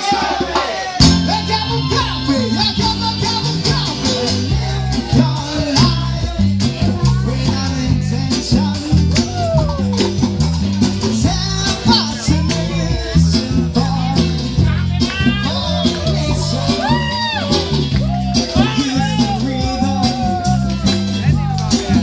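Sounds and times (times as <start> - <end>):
lead singer singing: 0.0 - 10.0, 10.8 - 22.0
bass line: 0.0 - 22.0
live band playing: 0.0 - 22.0.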